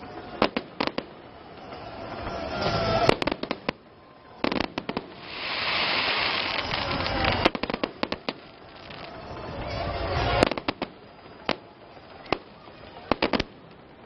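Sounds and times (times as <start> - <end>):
fireworks bangs: 0.0 - 14.0
rushing noise: 0.0 - 14.0
steady hiss: 0.0 - 14.0.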